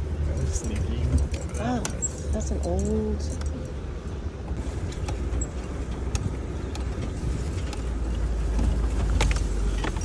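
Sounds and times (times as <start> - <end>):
car driving on rough trail: 0.0 - 10.0.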